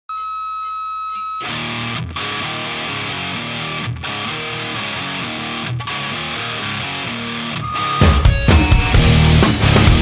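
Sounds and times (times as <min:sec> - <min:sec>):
rock music with electric guitar: 0:01.4 - 0:10.0.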